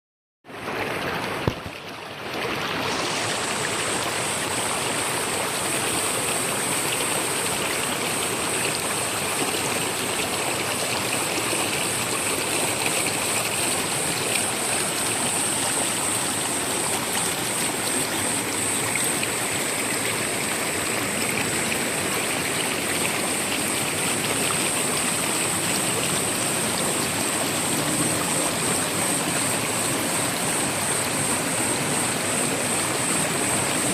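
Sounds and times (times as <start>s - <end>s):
stream flowing: 0.5s - 33.9s.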